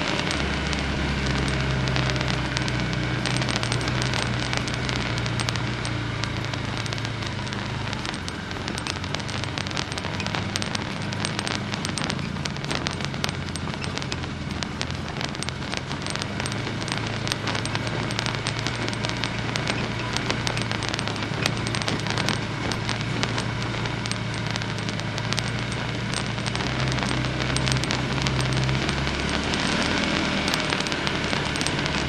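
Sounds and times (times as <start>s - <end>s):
crackling and crunching: 0.0s - 32.0s
vehicle engine running low: 0.0s - 32.0s.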